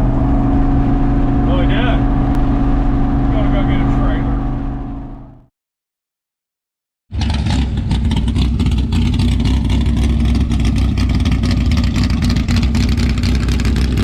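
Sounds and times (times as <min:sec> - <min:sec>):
vehicle engine rough pulsing: 0:00.0 - 0:05.5, 0:07.1 - 0:14.0.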